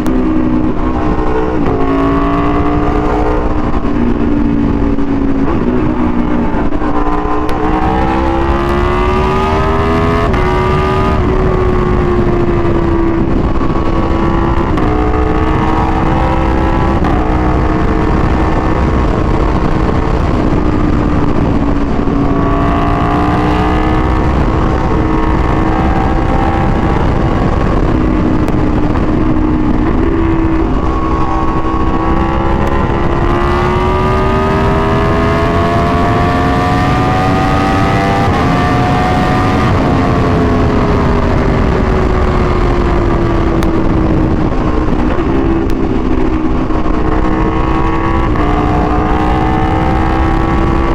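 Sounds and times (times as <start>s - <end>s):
motorcycle engine on the road: 0.0s - 50.9s.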